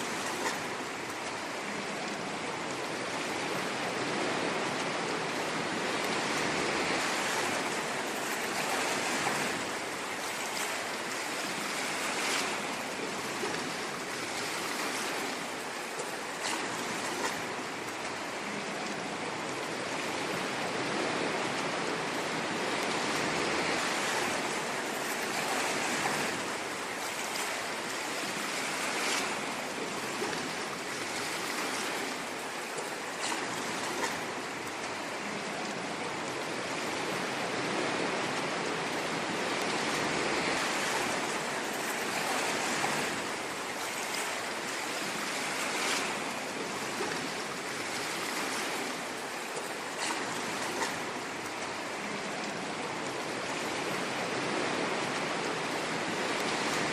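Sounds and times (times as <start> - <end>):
ocean waves on shore: 0.0 - 56.9.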